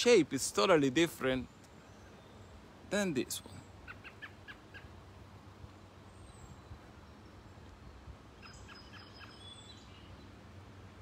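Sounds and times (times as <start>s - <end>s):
robin calling: 0.0s - 10.6s.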